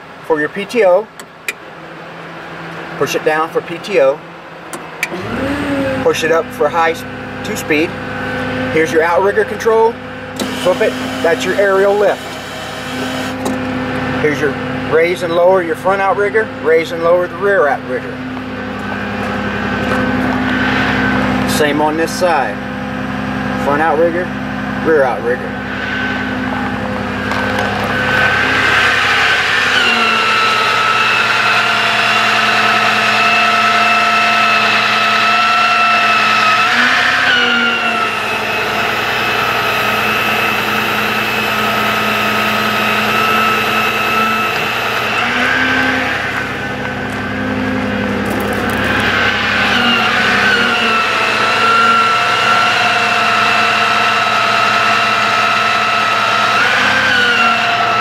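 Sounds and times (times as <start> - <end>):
truck engine running: 0.0 - 33.2, 36.2 - 51.6
hydraulic system whining: 0.0 - 58.0.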